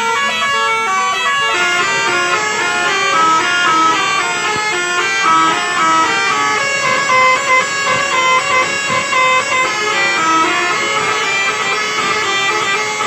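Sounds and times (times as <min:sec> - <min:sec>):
musical air horn melody: 0:00.0 - 0:13.0.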